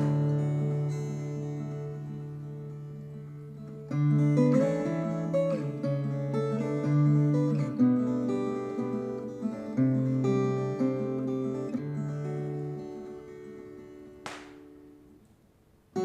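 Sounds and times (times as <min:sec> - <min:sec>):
slow plucked guitar melody: 0:00.0 - 0:14.8.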